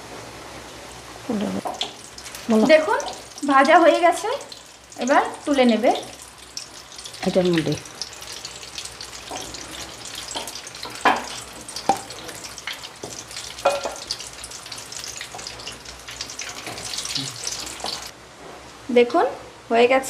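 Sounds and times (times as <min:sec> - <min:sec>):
food deep-frying in oil: 0:00.0 - 0:18.2.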